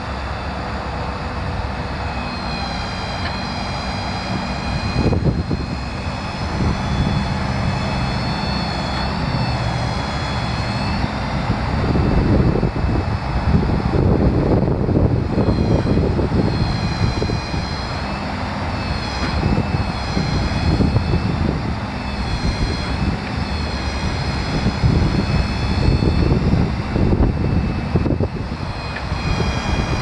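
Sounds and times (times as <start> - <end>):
diesel engine running: 0.0 - 30.0
high engine whine: 0.0 - 30.0.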